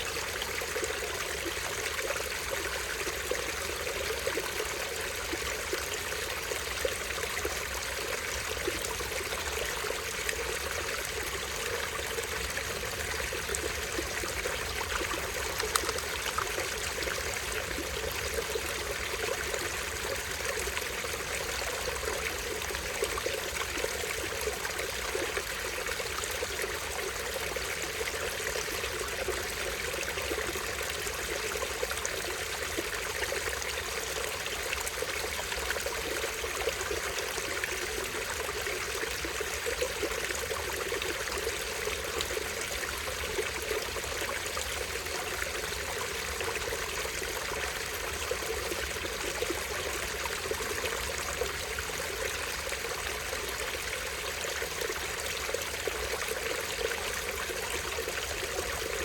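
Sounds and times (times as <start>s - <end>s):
stream trickling over waterfall: 0.0s - 59.0s.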